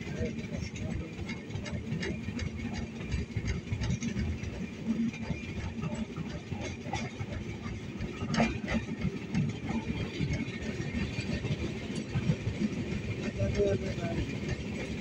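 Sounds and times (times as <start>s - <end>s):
train wheels rumbling and rattling: 0.0s - 15.0s.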